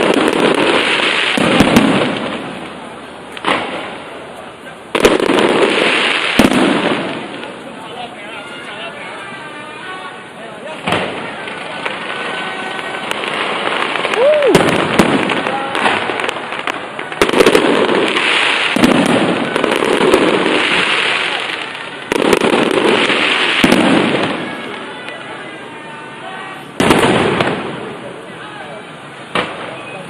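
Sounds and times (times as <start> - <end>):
fireworks bangs: 0.0 - 30.0
fireworks crackling: 0.0 - 30.0.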